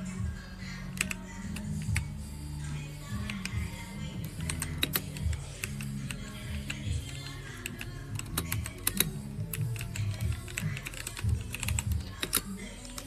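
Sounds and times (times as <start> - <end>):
background music: 0.0 - 13.0
mechanical keyboard typing: 1.0 - 2.1, 3.2 - 13.0.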